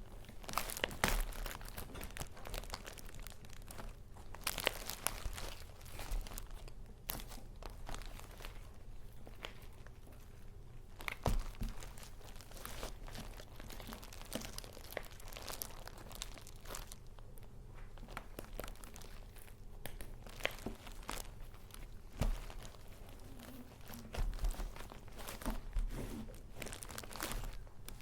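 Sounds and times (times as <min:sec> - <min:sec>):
paper crinkling and rustling: 0:00.0 - 0:28.0.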